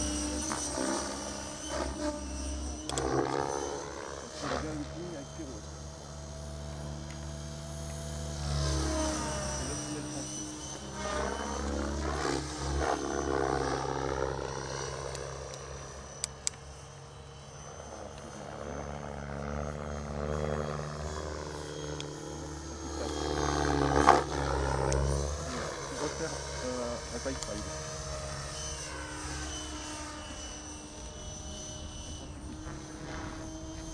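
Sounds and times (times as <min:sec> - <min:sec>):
model helicopter whine: 0:00.0 - 0:33.9.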